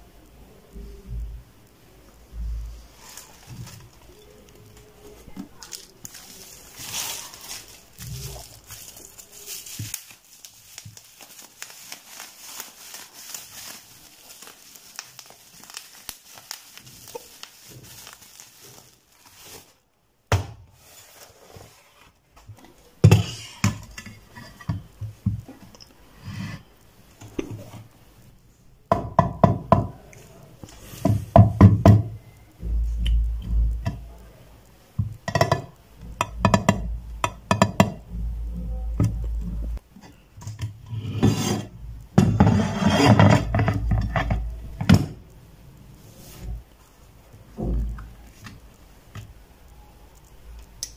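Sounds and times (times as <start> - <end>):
bubble wrap crinkling: 2.6 - 20.0, 20.7 - 28.4, 32.6 - 50.9.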